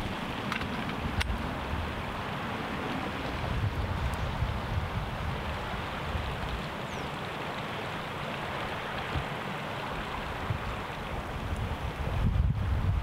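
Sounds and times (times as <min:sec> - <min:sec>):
wind buffeting microphone: 0:00.0 - 0:07.1, 0:08.6 - 0:13.0.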